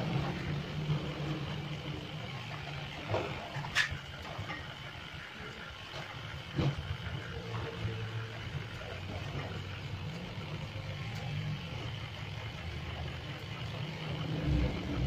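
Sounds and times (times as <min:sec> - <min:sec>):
electric clippers running: 0:00.0 - 0:15.0.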